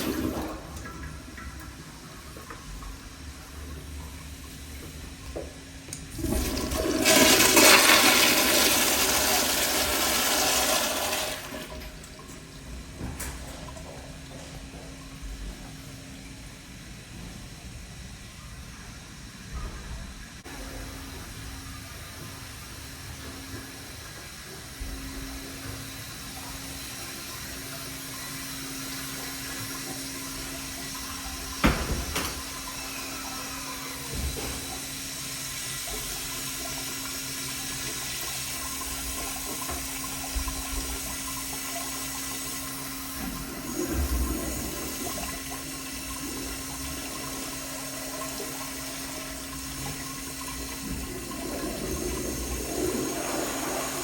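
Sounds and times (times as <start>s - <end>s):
toilet flushing: 0.0s - 54.0s.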